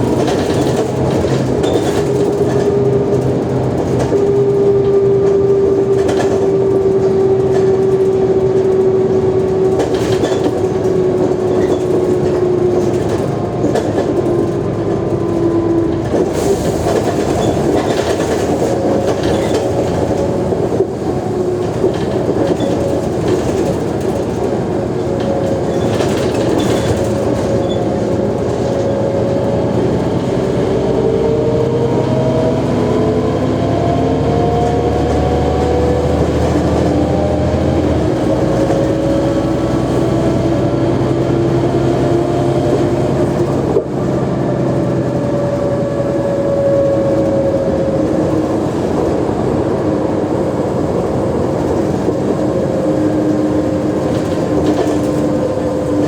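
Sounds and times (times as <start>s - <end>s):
bus diesel engine droning: 0.0s - 56.0s
whining drivetrain: 0.0s - 56.0s.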